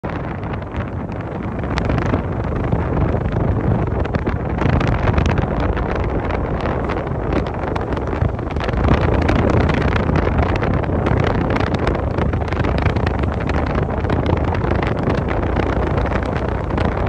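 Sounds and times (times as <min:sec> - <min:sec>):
low ferry rumble: 0:00.0 - 0:17.0
wind buffeting microphone: 0:00.0 - 0:17.0.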